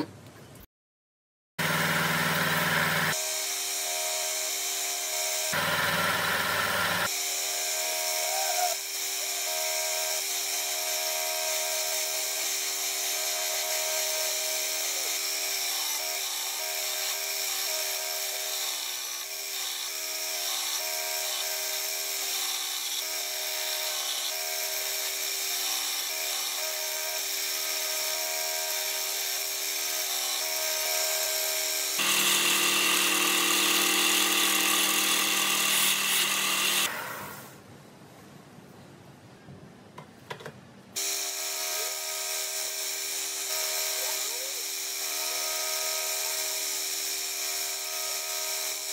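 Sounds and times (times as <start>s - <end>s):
belt sander grinding wood: 1.6s - 37.5s, 41.0s - 48.9s.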